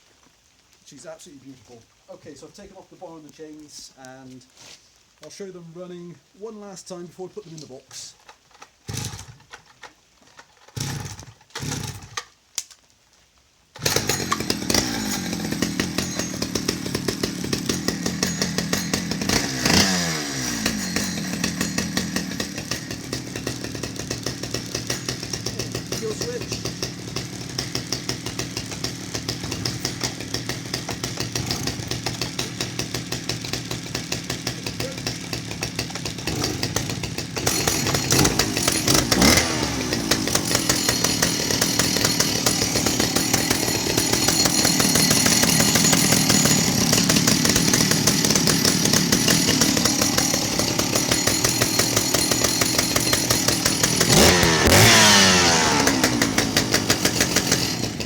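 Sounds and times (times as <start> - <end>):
chainsaw engine idling and revving: 8.8 - 9.6, 10.6 - 12.3, 13.8 - 58.0.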